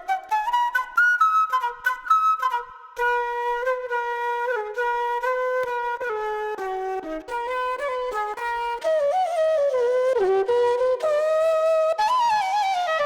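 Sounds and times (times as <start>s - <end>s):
solo flute-like melody: 0.0s - 13.0s.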